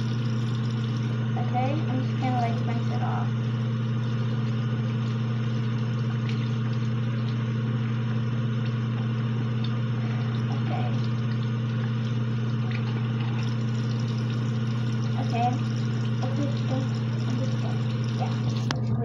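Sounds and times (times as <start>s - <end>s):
tap water running into sink: 0.0s - 18.9s
steady low hum: 0.0s - 19.0s.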